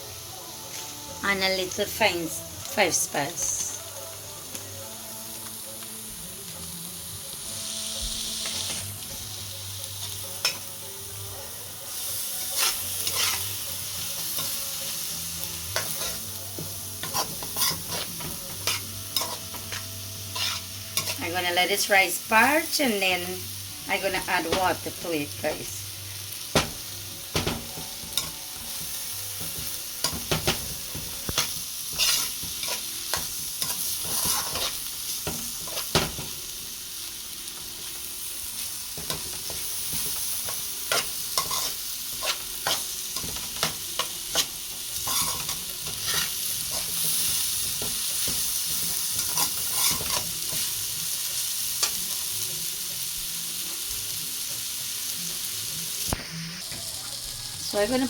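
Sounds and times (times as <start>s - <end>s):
rice sizzling in oil: 0.0s - 58.0s.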